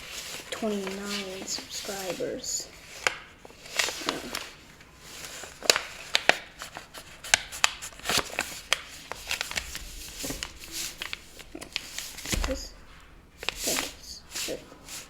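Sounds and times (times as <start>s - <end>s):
paper being folded and creased: 0.0s - 15.0s.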